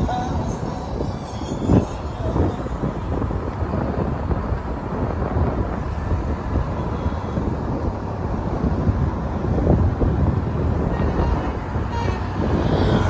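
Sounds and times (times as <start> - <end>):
road noise rumble: 0.0 - 13.0
wind buffeting microphone: 0.0 - 13.0.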